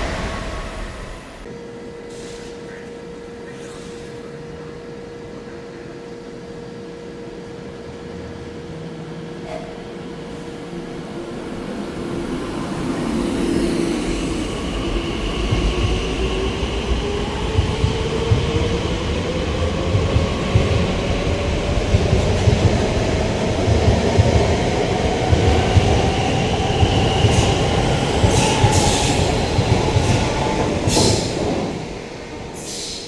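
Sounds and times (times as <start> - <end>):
electric train hum: 0.0 - 2.0, 4.6 - 33.0
rising train motor whine: 0.0 - 2.0, 8.0 - 33.0.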